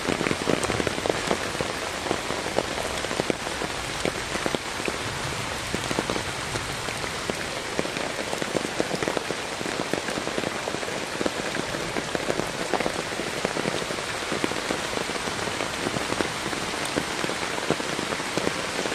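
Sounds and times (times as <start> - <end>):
flowing runoff water: 0.0 - 18.9
heavy rain hissing: 0.0 - 18.9.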